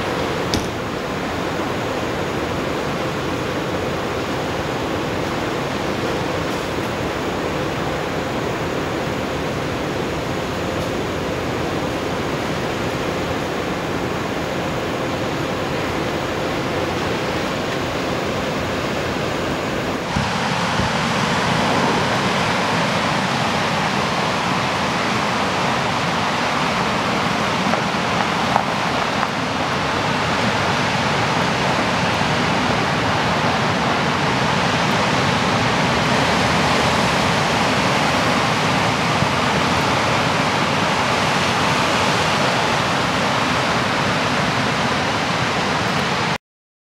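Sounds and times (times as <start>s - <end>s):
ocean surf breaking on beach: 0.0s - 46.4s.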